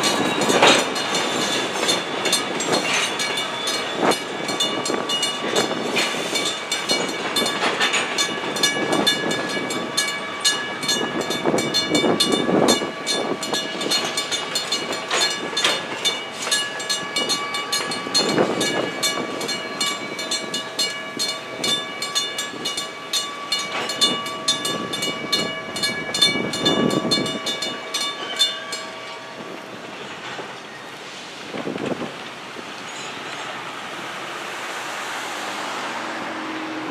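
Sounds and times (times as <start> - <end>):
crossing bells ringing rapidly: 0.0 - 30.9
rumble of passing train: 0.0 - 36.9.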